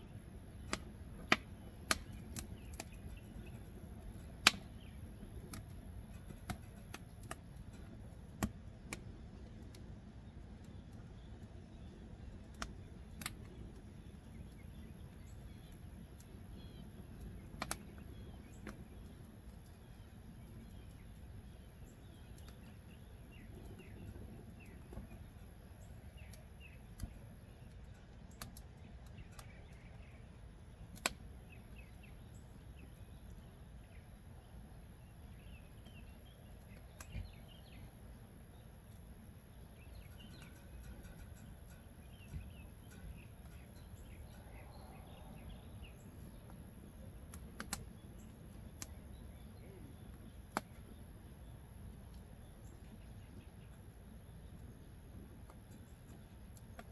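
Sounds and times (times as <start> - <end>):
faint birds chirping: 0.0 - 56.9
low steady rumble: 0.0 - 56.9
wood fire crackling and popping: 0.4 - 34.0, 35.3 - 37.8, 38.5 - 51.0, 51.9 - 56.9.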